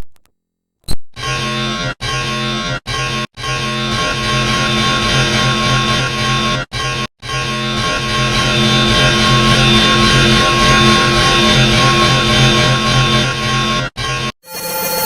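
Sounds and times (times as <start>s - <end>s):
harsh distorted droning tones: 1.2s - 14.3s.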